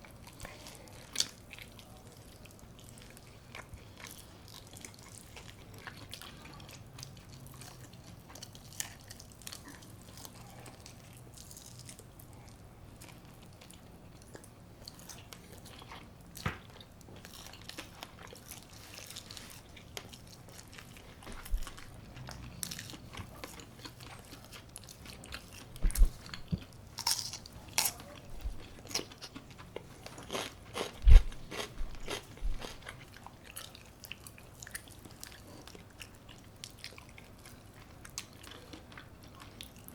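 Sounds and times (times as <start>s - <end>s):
chewing with crunchy bites: 0.0s - 39.9s.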